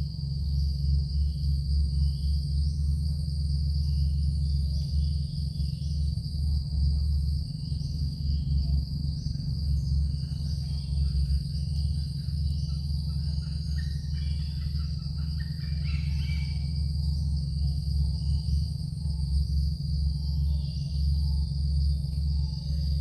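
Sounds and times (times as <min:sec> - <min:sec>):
high insect trill: 0:00.0 - 0:23.0
low hum: 0:00.0 - 0:23.0.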